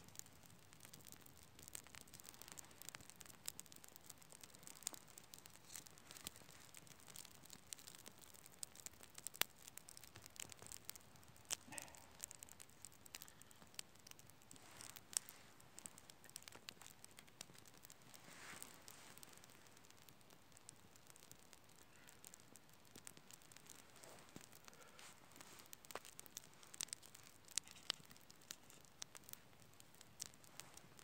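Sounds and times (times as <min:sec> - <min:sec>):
kindling fire crackling: 0:00.0 - 0:31.0.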